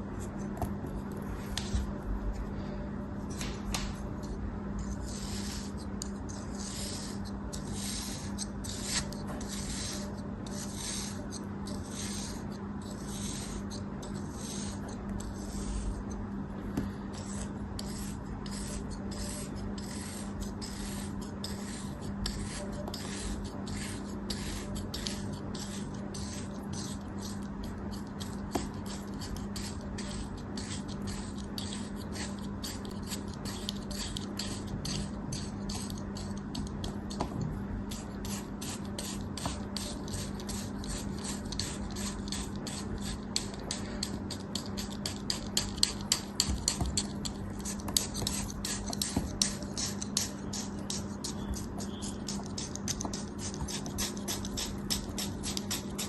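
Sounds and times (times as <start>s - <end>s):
steady low hum: 0.0s - 56.0s
knife scraping: 3.3s - 56.0s.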